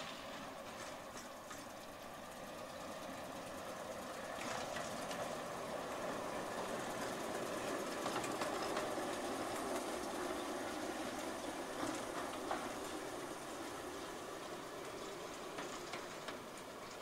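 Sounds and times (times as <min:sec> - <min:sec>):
diesel locomotive engine: 0:00.0 - 0:17.0.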